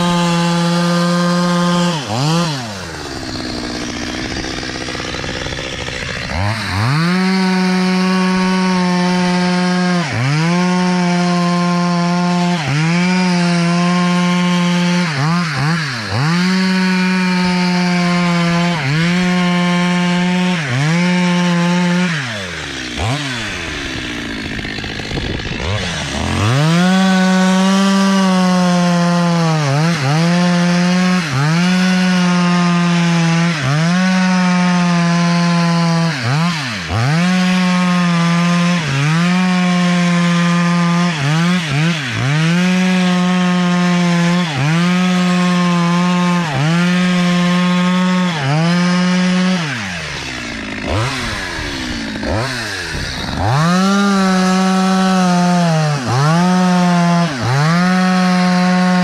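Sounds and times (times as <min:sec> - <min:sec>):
chainsaw cutting ice: 0:00.0 - 0:59.0.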